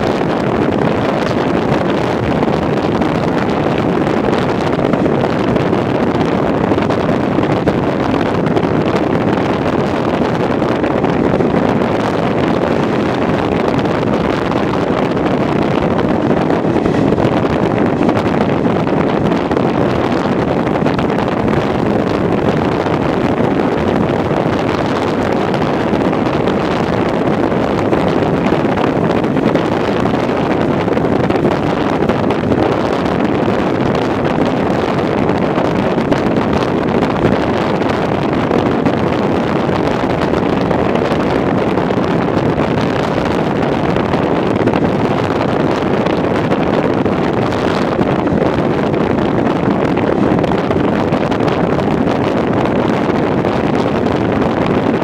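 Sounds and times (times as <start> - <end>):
train running rumble: 0.0 - 55.0
wind rushing over microphone: 0.0 - 55.0.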